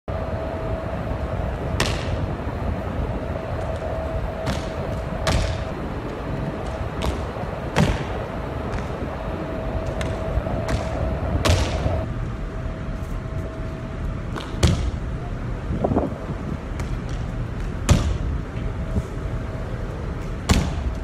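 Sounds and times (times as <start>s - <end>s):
faint steady hum: 0.1s - 21.0s
steady low rumble: 0.1s - 21.0s.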